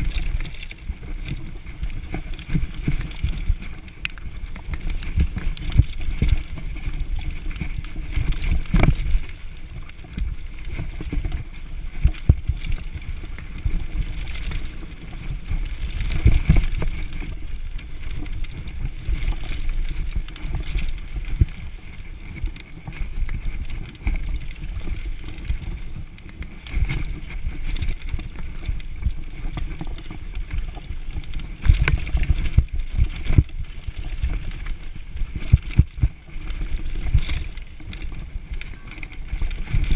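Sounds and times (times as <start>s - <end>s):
bike knocking and rattling: 0.0s - 39.9s
bike tyres rumbling on trail: 0.0s - 39.9s.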